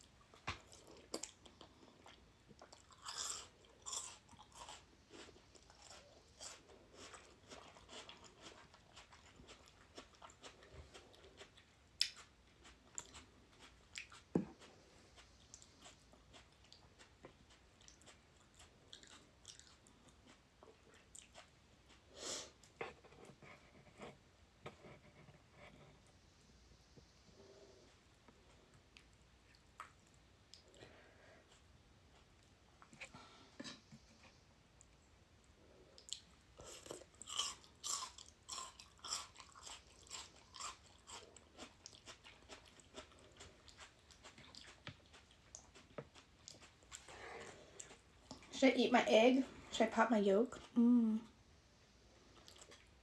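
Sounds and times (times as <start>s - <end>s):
person chewing noodles: 0.0s - 23.1s, 27.4s - 48.5s, 52.0s - 53.0s.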